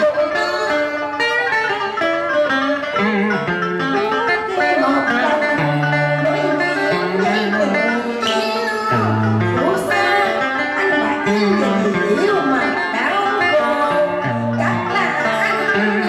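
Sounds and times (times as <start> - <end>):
plucked string instruments melody: 0.0 - 16.0.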